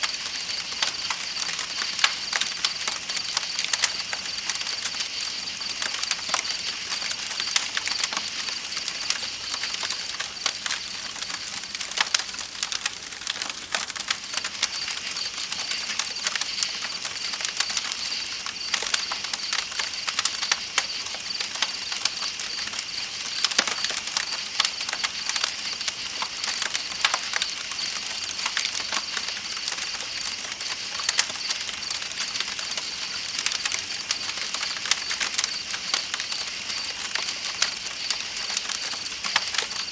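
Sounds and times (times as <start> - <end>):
campfire crackling: 0.0 - 39.9
night insects trilling: 0.0 - 39.9.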